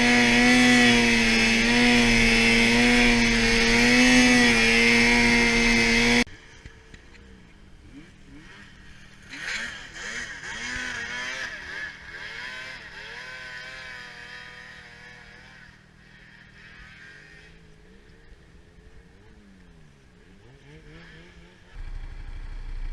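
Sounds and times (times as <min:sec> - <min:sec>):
snowmobile engine revving: 0:00.0 - 0:06.3, 0:07.8 - 0:22.9
distant snowmobile revving: 0:00.0 - 0:22.9.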